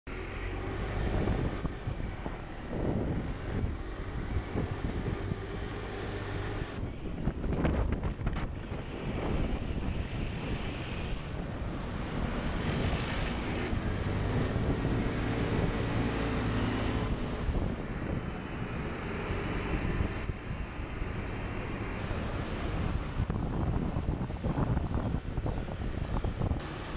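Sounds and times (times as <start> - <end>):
surrounding traffic: 0.1 - 26.9
wind buffeting microphone: 0.2 - 26.9.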